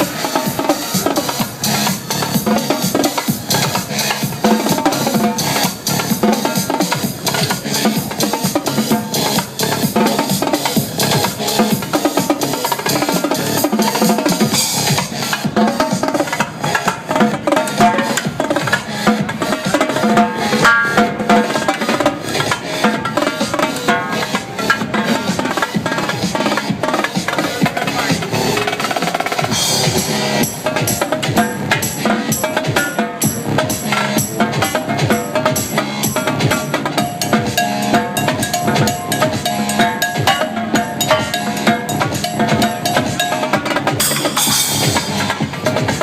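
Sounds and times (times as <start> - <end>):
electronic dance track: 0.0 - 46.0
fast drumming and cymbals: 0.0 - 46.0.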